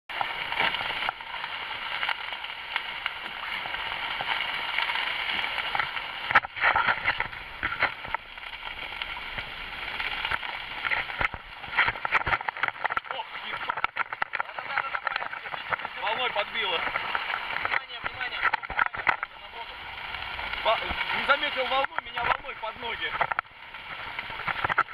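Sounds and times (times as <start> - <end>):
water rushing past hulls: 0.1 - 24.9.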